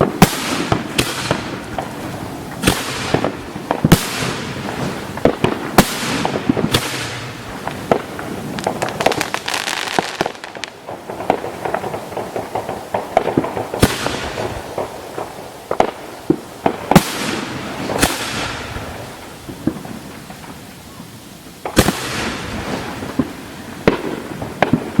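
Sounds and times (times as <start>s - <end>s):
crackling fireworks reports: 0.0s - 25.0s
fireworks bursting with bangs: 0.0s - 25.0s.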